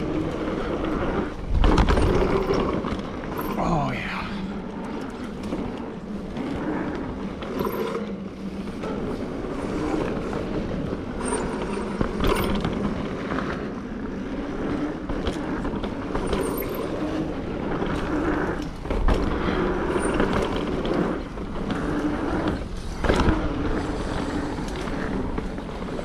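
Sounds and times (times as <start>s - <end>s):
bike tyres rolling on dirt: 0.0s - 26.0s.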